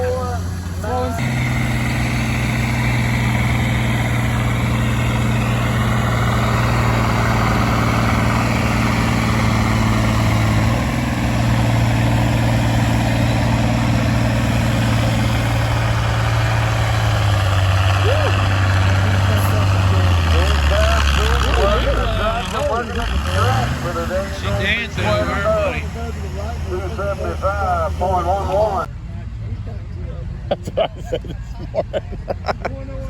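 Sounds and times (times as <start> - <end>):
loud engine running: 0.0 - 33.0.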